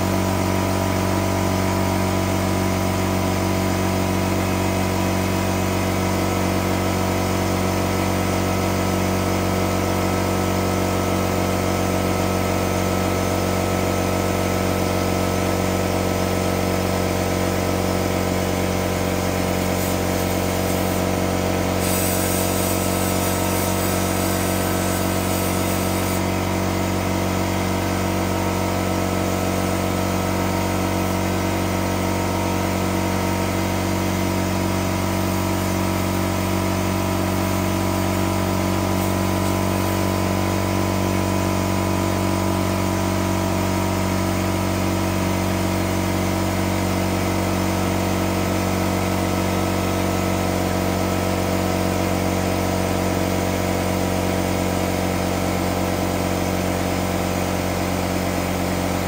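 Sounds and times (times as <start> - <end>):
air compressor motor hum: 0.0 - 59.0.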